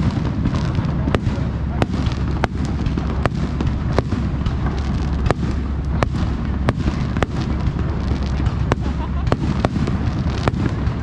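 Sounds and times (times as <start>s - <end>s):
rumble of firework bursts: 0.0s - 11.0s
sharp firework bangs: 0.0s - 11.0s.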